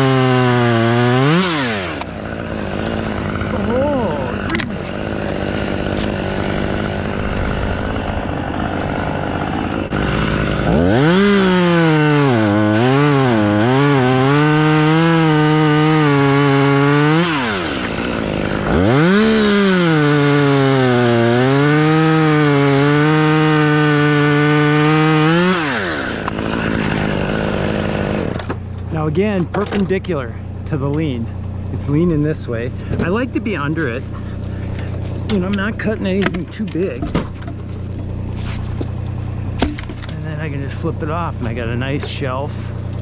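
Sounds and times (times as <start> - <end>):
chainsaw cutting wood: 0.0 - 28.8, 32.8 - 40.6
chainsaw engine idling hum: 0.0 - 43.0.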